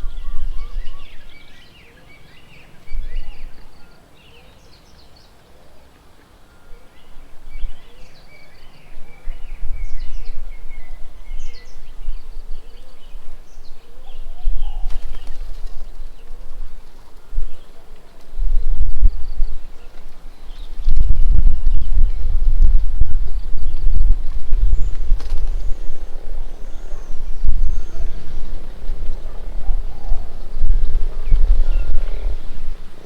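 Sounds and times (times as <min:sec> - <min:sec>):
wind buffeting microphone: 0:00.0 - 0:01.7, 0:02.4 - 0:04.0, 0:06.9 - 0:33.0
small birds chirping: 0:00.0 - 0:33.0.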